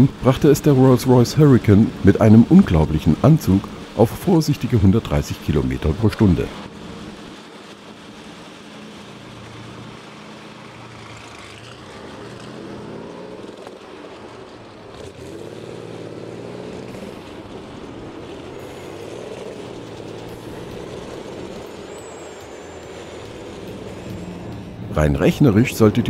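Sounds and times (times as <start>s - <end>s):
aero engine car pulling away: 0.0s - 26.0s.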